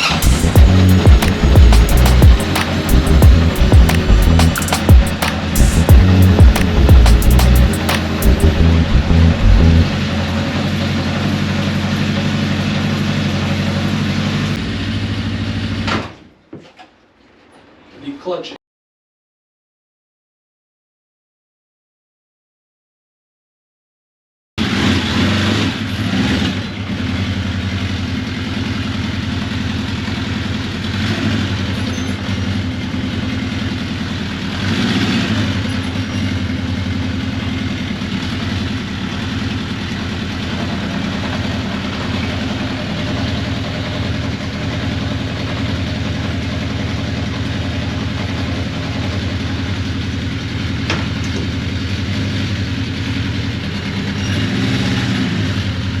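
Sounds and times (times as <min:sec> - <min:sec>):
motorcycle engine idling: 0:00.0 - 0:15.9, 0:26.6 - 0:56.0.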